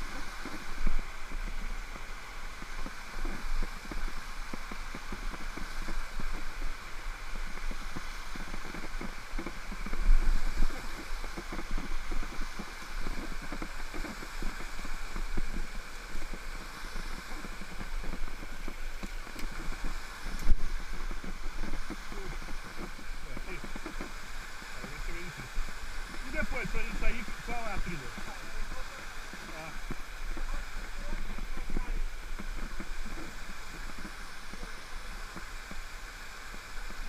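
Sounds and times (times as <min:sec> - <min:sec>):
waterfall rushing: 0:00.0 - 0:37.0
wind buffeting camera: 0:00.0 - 0:37.0.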